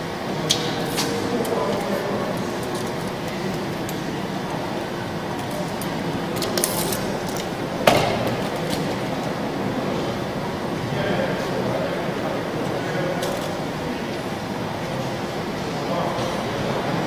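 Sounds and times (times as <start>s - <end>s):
workshop hall background noise: 0.0s - 17.0s.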